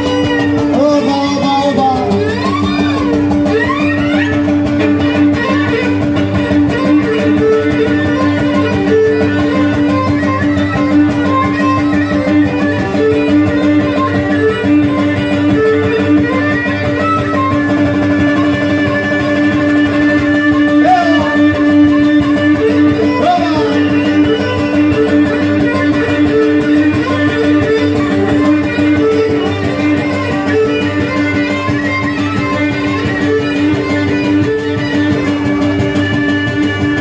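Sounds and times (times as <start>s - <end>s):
bowed lyra melody: 0.0s - 37.0s
cajon beat: 0.0s - 37.0s
strummed lute: 0.0s - 37.0s.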